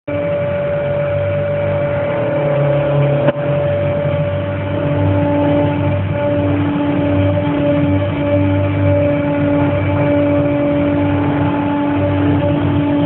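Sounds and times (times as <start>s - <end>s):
machine humming: 0.1s - 13.0s
machine whining tones: 0.1s - 13.0s.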